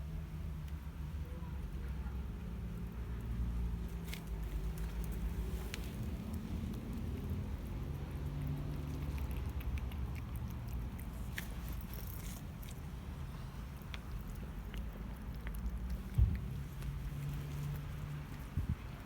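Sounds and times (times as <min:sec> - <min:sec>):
low steady rumble: 0:00.0 - 0:19.0
cat chewing food: 0:02.2 - 0:19.0.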